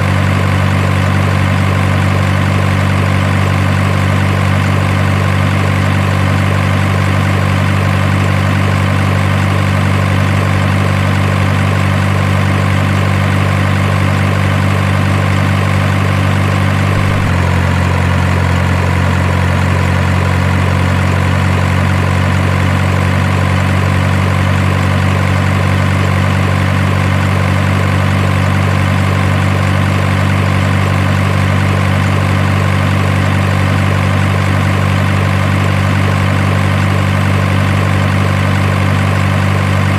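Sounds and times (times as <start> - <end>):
heavy engine idling: 0.0 - 39.9.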